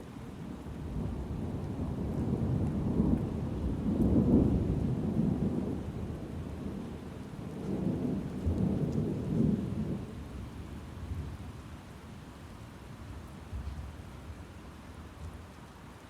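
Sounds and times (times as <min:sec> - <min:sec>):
rain: 0:00.0 - 0:16.0.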